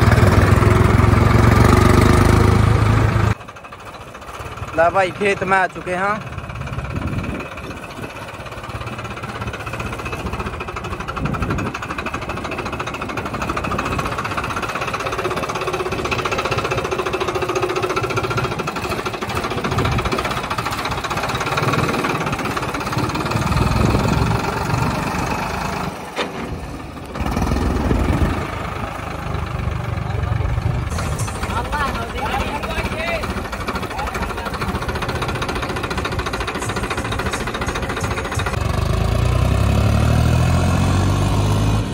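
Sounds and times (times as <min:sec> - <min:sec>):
tractor diesel engine clattering: 0:00.0 - 0:41.9.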